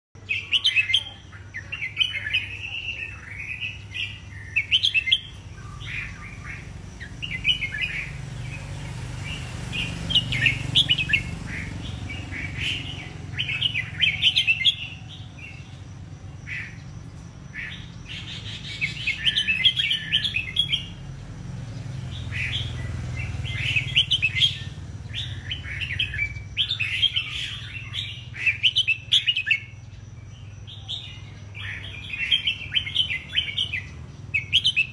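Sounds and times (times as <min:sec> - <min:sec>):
bird warbling song: 0:00.2 - 0:34.9.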